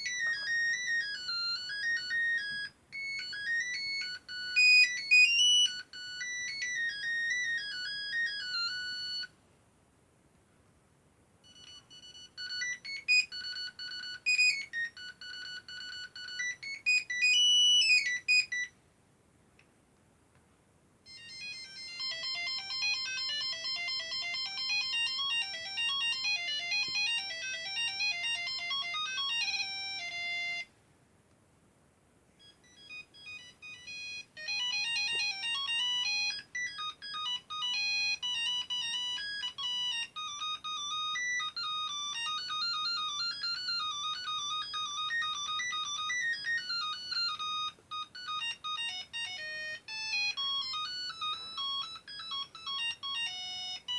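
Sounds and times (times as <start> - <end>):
mobile phone ringtone beeps: 0.0 - 9.3, 11.4 - 18.8, 21.1 - 30.7, 32.4 - 53.9.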